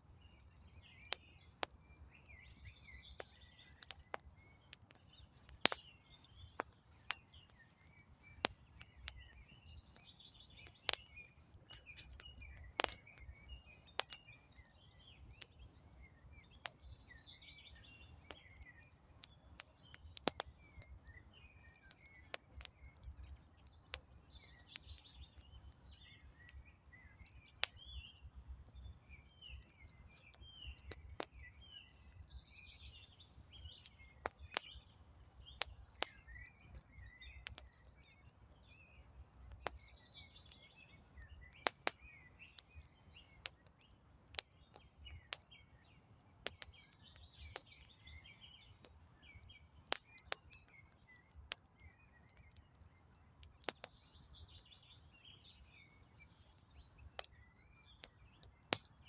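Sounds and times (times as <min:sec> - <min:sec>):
wood fire crackling and popping: 0:00.0 - 0:59.0
birds chirping: 0:00.2 - 0:59.0.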